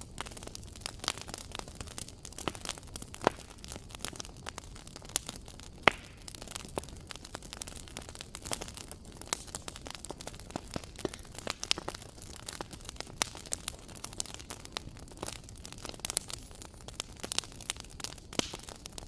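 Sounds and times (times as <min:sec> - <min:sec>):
fire crackling and popping: 0:00.0 - 0:19.0
low rustle of flames: 0:00.0 - 0:19.0.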